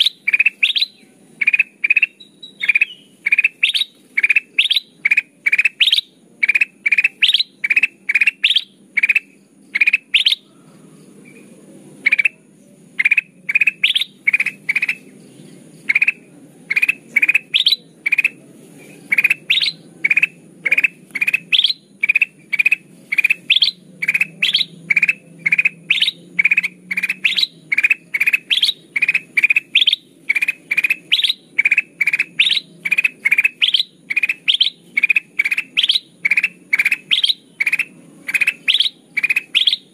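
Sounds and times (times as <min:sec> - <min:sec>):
rising whistled bird call: 0:00.0 - 0:11.5, 0:13.0 - 0:15.0, 0:19.0 - 0:39.9.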